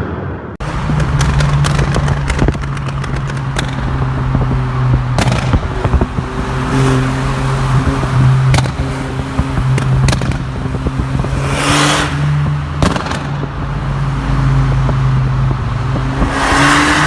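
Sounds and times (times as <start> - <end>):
exhaust bangs: 0.0 - 17.0
car engine running: 0.6 - 16.8
exhaust crackling and popping: 0.6 - 17.0.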